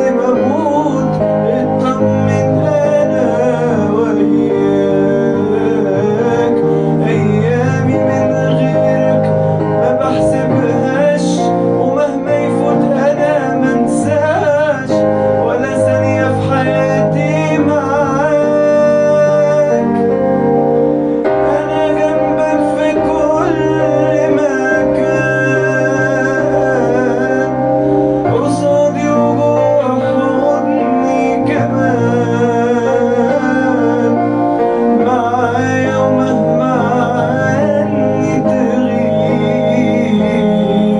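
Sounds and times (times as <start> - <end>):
instrumental backing: 0.0 - 40.9
man singing a ballad: 0.0 - 40.9.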